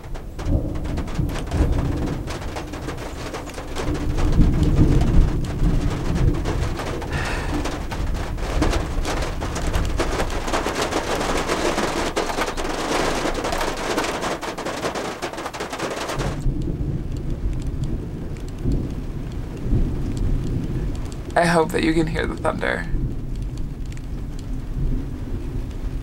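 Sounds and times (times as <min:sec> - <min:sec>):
low rumble of thunder: 0:00.0 - 0:26.0
rain pattering: 0:00.0 - 0:26.0.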